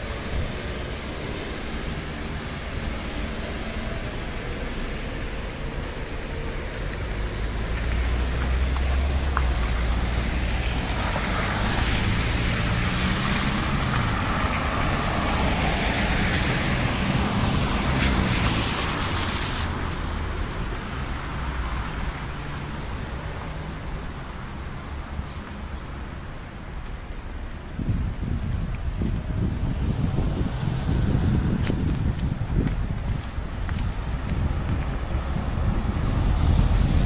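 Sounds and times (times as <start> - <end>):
traffic driving past: 0.0 - 37.0.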